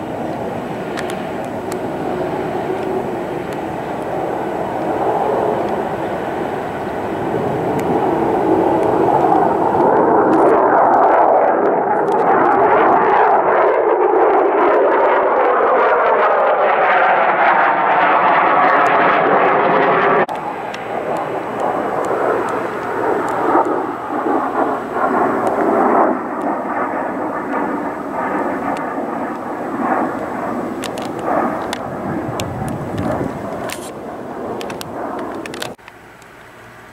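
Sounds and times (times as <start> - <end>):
fighter jet flying past: 0.0 - 35.8
wavering jet rumble: 0.0 - 36.9.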